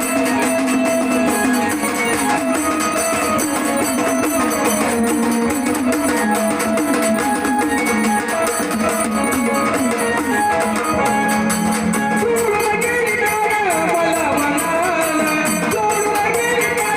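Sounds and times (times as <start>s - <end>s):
devotional folk music: 0.0s - 16.9s
fast steady drum beats: 0.0s - 16.9s.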